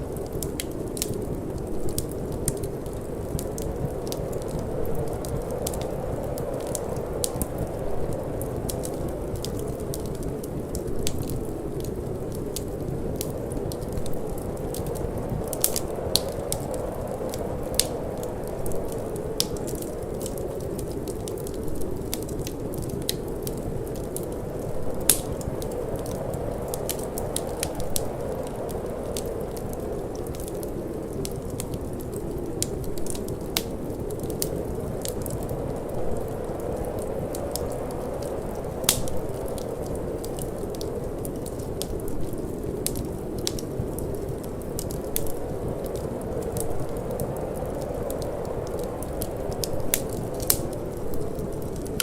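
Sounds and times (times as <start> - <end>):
low whoosh of wind: 0.0 - 52.0
wood fire crackling and popping: 0.0 - 52.0.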